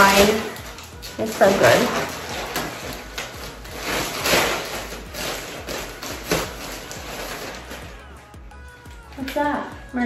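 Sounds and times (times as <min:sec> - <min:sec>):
steady rustling: 0:00.0 - 0:08.2.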